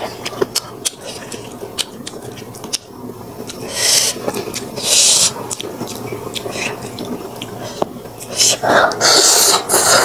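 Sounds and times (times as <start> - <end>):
wet mouth eating sounds: 0.0 - 10.0.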